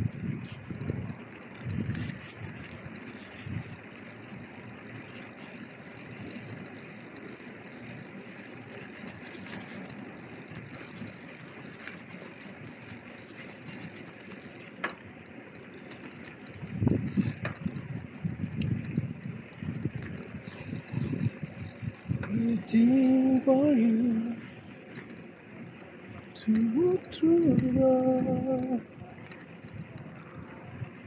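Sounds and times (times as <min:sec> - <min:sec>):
bicycle tyres rolling: 0:00.0 - 0:31.0
wind buffeting microphone: 0:00.0 - 0:31.0.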